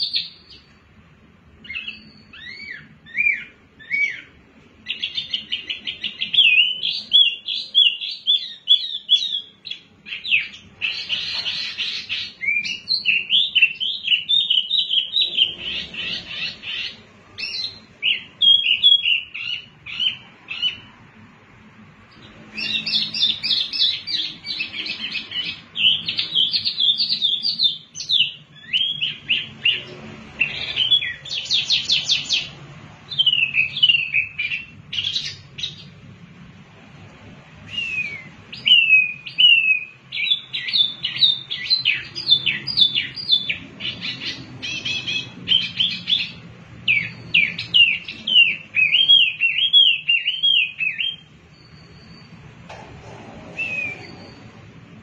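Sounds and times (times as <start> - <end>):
songbird singing: 0.0 - 36.2, 37.6 - 55.0.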